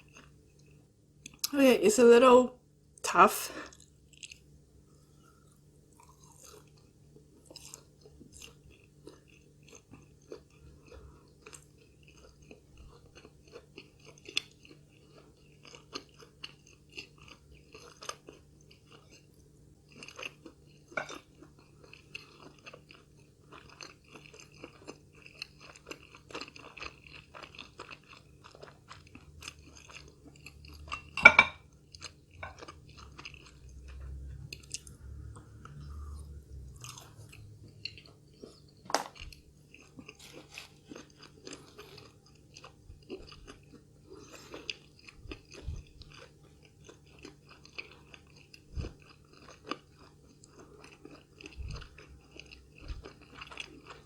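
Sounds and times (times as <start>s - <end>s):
chewing crunchy fried food: 0.0s - 1.6s, 3.5s - 54.0s.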